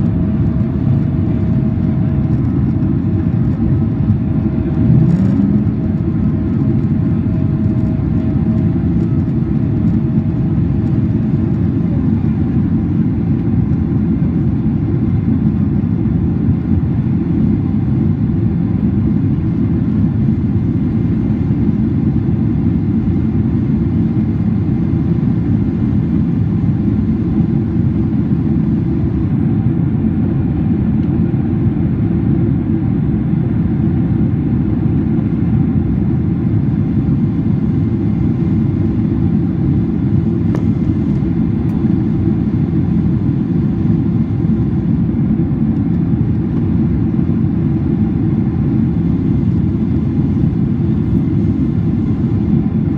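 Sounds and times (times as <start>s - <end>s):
airliner cabin drone: 0.0s - 52.9s.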